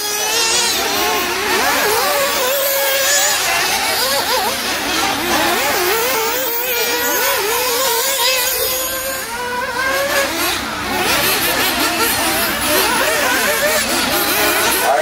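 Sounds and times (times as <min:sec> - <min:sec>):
rc car engines buzzing and revving: 0:00.0 - 0:15.0.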